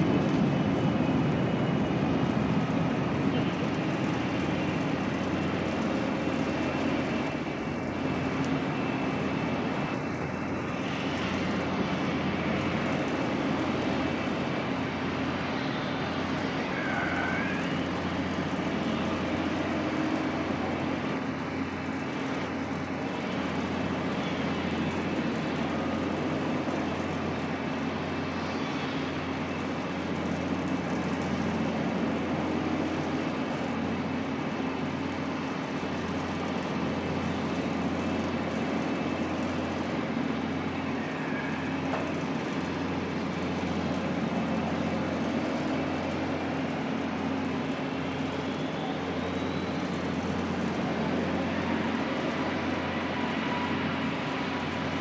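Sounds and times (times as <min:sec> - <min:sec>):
distant engines droning: 0:00.0 - 0:55.0.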